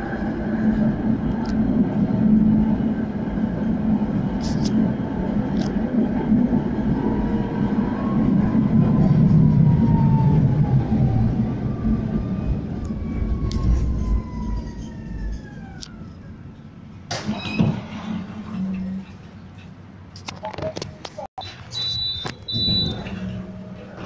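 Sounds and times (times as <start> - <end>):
tram rolling rumble: 0.0 - 24.0.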